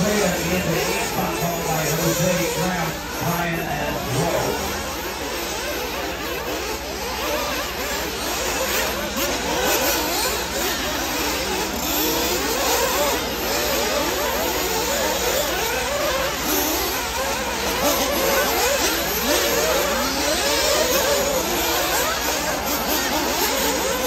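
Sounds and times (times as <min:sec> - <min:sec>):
rc car motors whining: 0:00.0 - 0:24.0.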